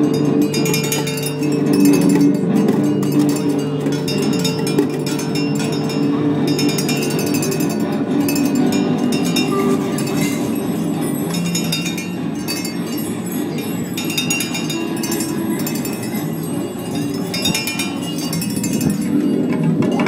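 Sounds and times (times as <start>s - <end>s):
clinking metal and glass percussion: 0.0s - 20.0s.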